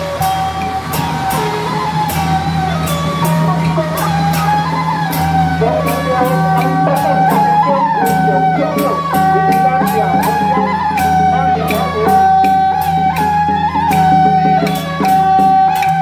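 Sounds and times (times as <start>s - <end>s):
drum and cymbal strokes: 0.0s - 16.0s
gliding melody: 0.0s - 16.0s
low drone: 0.0s - 16.0s.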